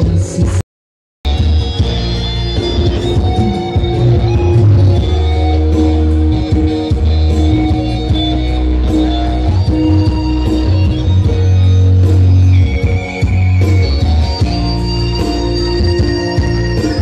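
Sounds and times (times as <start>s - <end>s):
heavy steady bass: 1.2s - 17.0s
loud guitar music: 1.2s - 17.0s.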